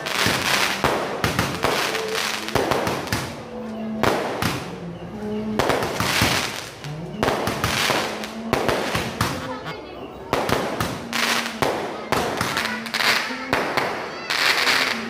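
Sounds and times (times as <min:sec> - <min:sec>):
fireworks banging and crackling: 0:00.0 - 0:04.8, 0:05.5 - 0:15.0.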